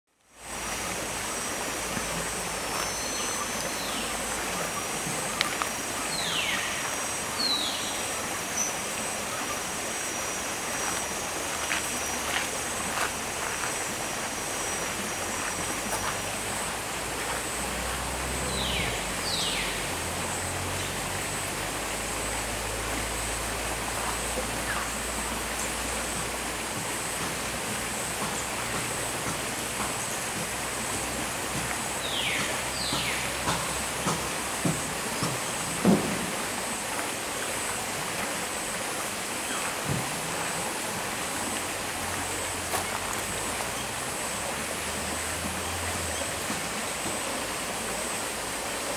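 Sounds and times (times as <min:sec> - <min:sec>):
rushing like running water: 0:00.1 - 0:48.9
high insect whine: 0:00.3 - 0:46.4.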